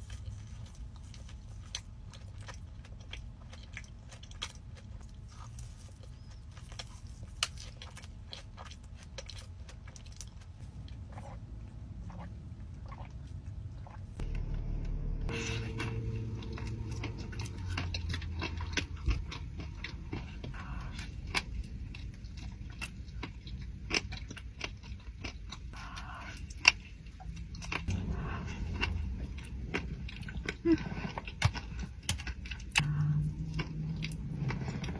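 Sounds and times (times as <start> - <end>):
close-up chewing and mouth sounds: 0.0 - 14.5, 15.3 - 34.9.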